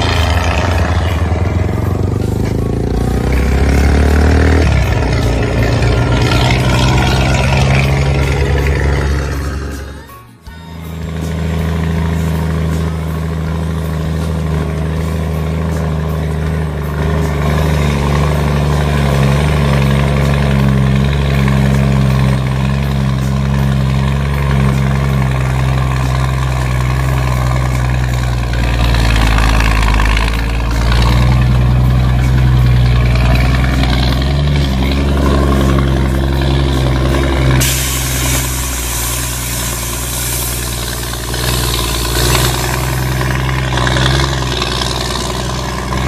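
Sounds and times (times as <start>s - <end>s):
truck diesel engine rumbling: 0.0s - 46.0s.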